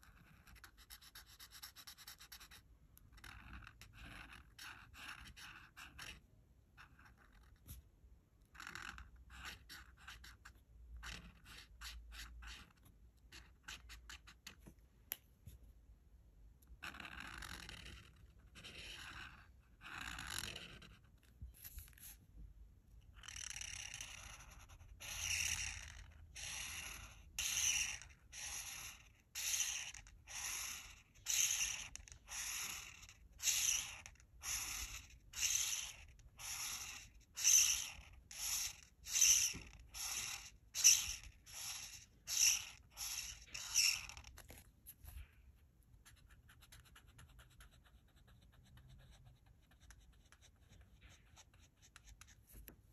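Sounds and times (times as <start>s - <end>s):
marker scratching on paper: 0.0s - 7.8s, 8.5s - 14.8s, 16.8s - 22.3s, 23.0s - 52.9s.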